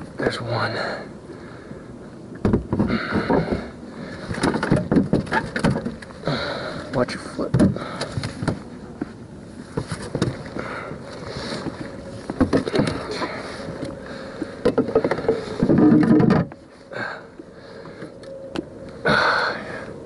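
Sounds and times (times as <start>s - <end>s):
gear and feet on boat deck: 0.0s - 20.0s.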